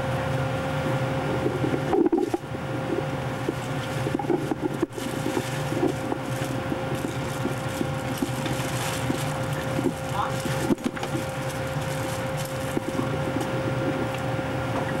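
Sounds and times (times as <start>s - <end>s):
constant mid-pitched tone: 0.0s - 15.0s
machinery and ventilation hum: 0.0s - 15.0s.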